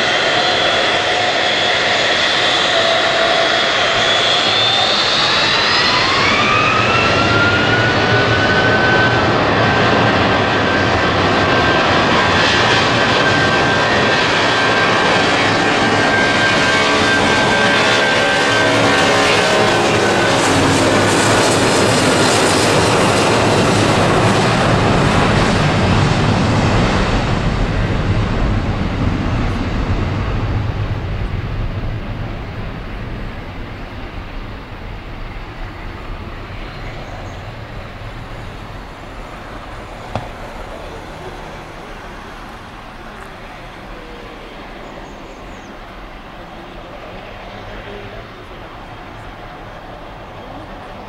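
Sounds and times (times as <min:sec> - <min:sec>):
jet engine roar and whine: 0:00.0 - 0:51.0.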